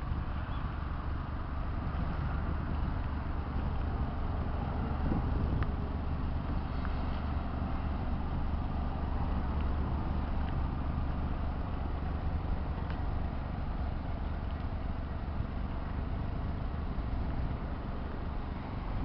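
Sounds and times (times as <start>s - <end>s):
small car engine idling: 0.0s - 19.0s.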